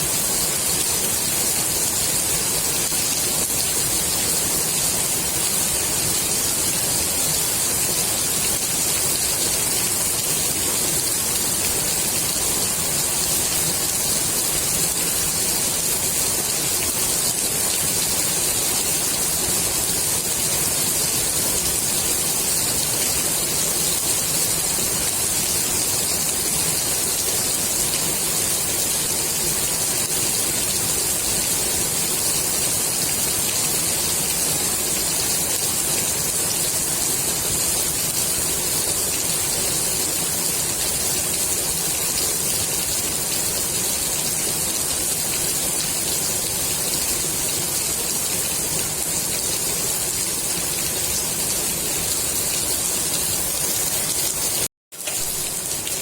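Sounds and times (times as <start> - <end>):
heavy rain on pool water: 0.0 - 56.0.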